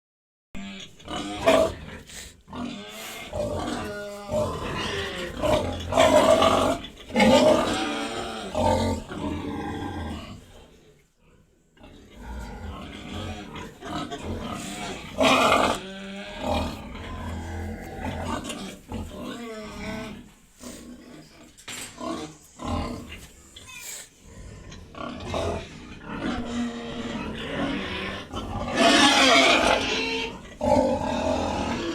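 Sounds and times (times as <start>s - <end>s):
pigs calling: 0.6s - 10.6s, 11.4s - 31.9s.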